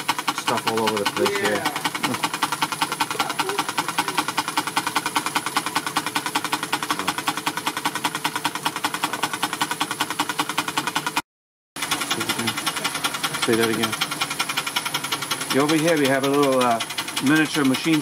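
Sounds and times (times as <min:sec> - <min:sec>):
model steam engine running: 0:00.0 - 0:11.2, 0:11.8 - 0:18.0.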